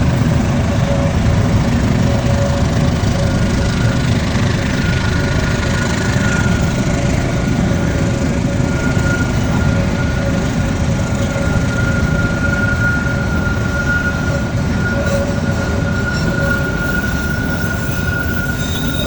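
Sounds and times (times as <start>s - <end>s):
train rumbling: 0.0s - 19.0s
high-pitched wheel squeal: 0.3s - 19.0s.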